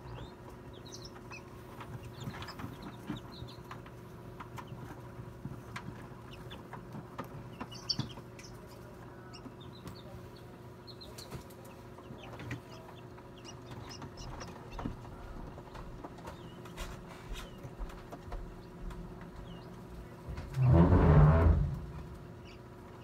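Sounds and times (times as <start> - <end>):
chicks peeping: 0.0 - 23.0
incubator hum: 0.0 - 23.0.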